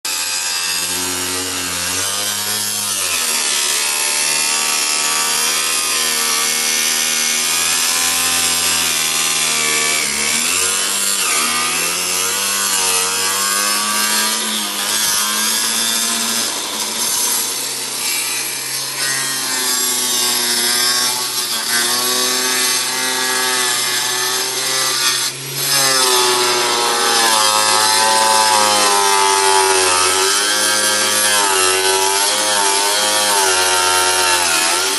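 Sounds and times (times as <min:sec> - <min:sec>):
power tool cutting metal: 0:00.1 - 0:34.9.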